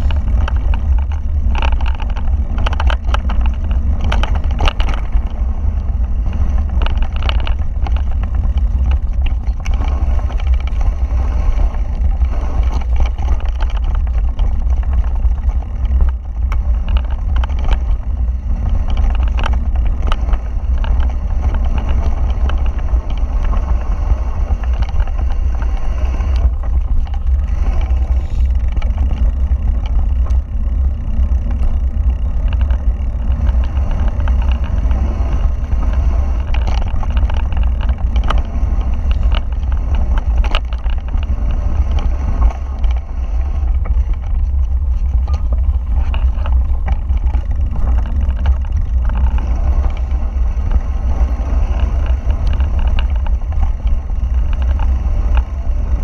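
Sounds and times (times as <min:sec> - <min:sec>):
bike rattling and knocking: 0:00.0 - 0:56.0
wind rumbling on microphone: 0:00.0 - 0:56.0.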